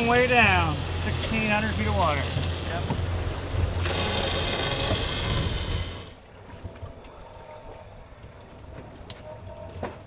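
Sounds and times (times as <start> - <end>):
boat engine hum: 0.0 - 8.6.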